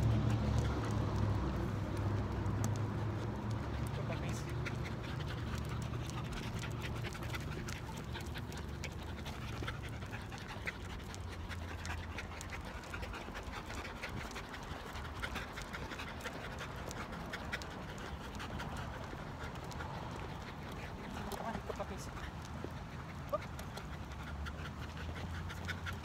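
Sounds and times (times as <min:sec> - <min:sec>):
dogs panting: 0:00.0 - 0:26.0.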